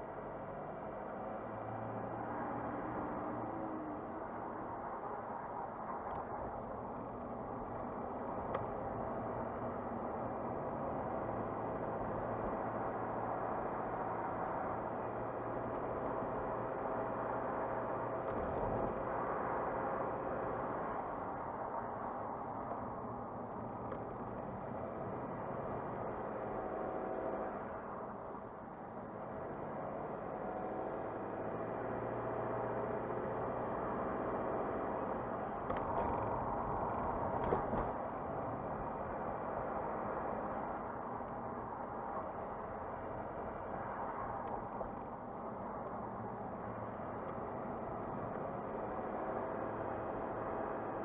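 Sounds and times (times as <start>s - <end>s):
car engine hum: 0.0s - 51.0s
tyre and road noise: 0.0s - 51.0s.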